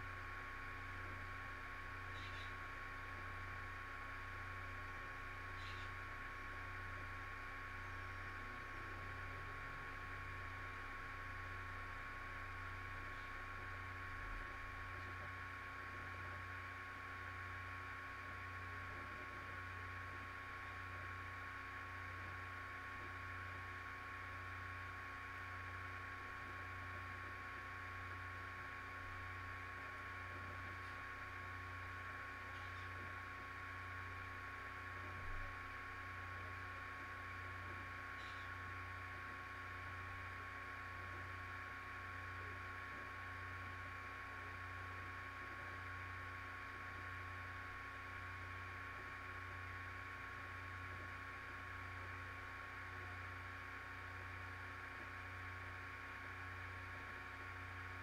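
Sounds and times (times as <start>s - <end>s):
electrical hum and hiss: 0.0s - 58.0s
pulsing low hum: 0.0s - 58.0s.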